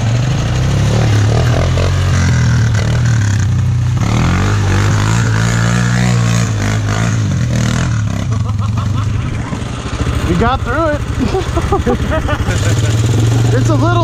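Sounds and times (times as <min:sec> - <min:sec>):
small engines revving: 0:00.0 - 0:14.0.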